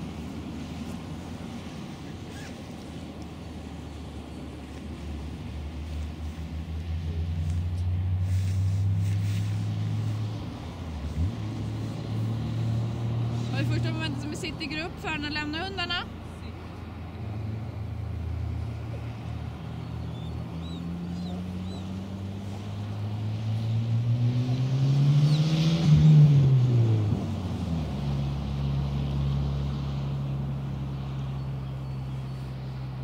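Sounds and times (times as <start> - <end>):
low engine drone: 0.0 - 33.0
vehicle passing by: 0.0 - 33.0.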